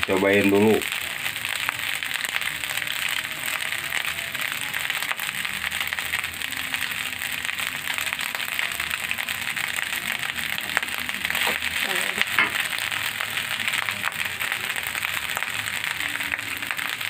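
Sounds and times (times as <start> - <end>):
fried rice sizzling in a pan: 0.0 - 17.0.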